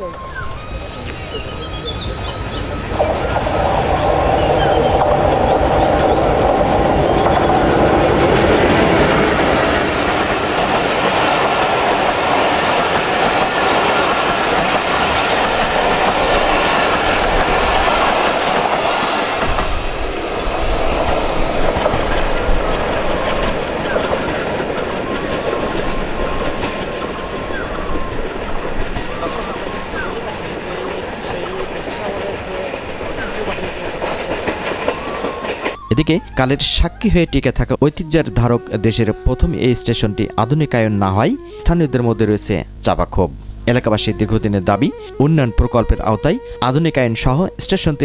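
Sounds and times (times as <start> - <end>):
train engine and wheels on rails: 0.0 - 48.0.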